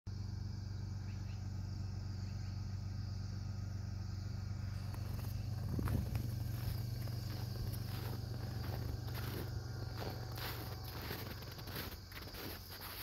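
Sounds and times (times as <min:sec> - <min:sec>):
low hum: 0:00.1 - 0:13.0.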